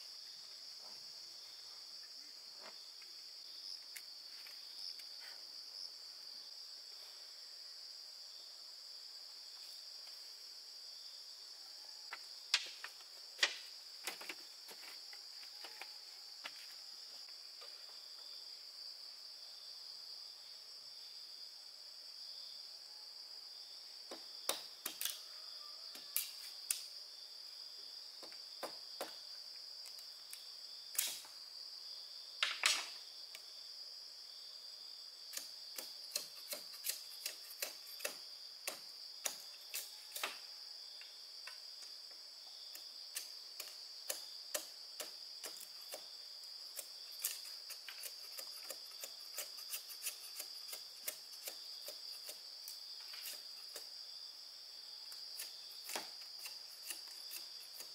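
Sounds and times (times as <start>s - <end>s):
crickets chirring: 0.0s - 57.9s.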